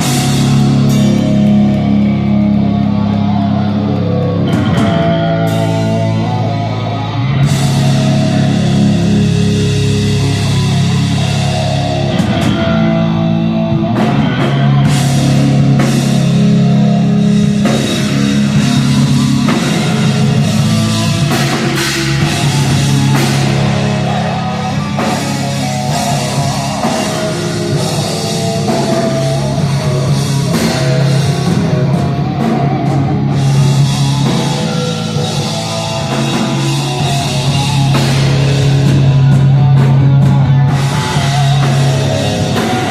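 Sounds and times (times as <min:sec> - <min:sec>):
heavy rock band playing: 0:00.0 - 0:42.9.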